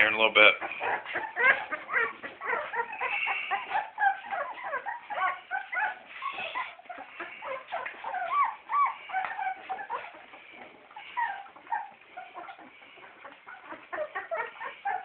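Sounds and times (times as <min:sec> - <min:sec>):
puppies squeaking and whimpering: 0:00.0 - 0:15.0.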